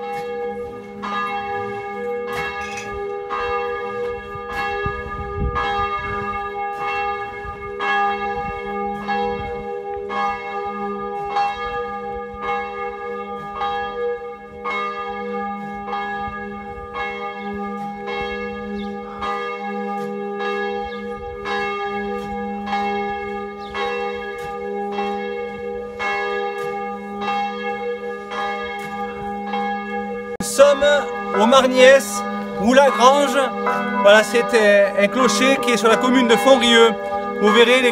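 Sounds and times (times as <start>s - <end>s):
church bell ringing: 0.0s - 37.9s.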